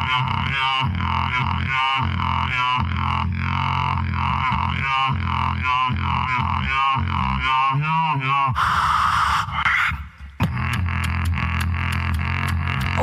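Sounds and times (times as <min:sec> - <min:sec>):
beatboxing: 0:00.0 - 0:13.0.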